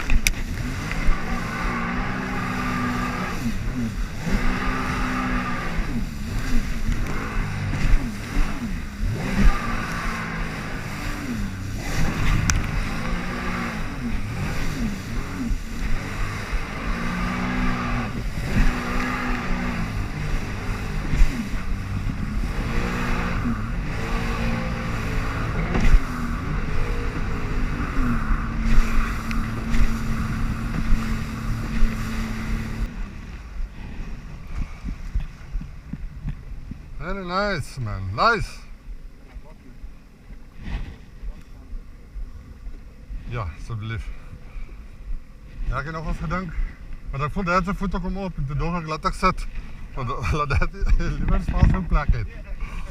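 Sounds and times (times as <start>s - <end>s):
jet ski engine running: 0.0s - 52.9s.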